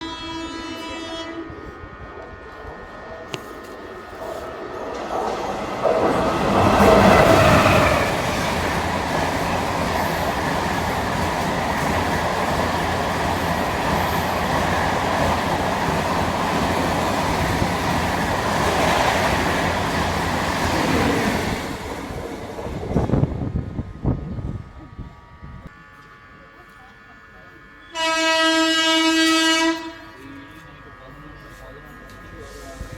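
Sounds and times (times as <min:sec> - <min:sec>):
passenger train passing at speed: 0:00.0 - 0:25.8, 0:27.0 - 0:32.9.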